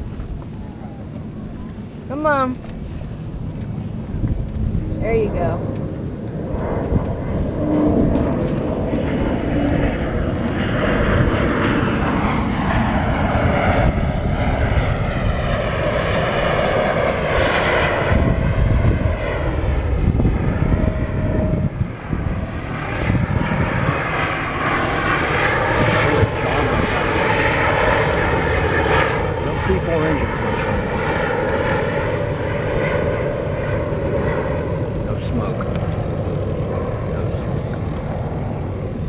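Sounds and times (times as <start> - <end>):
jet aircraft flying past: 0.0 - 39.0.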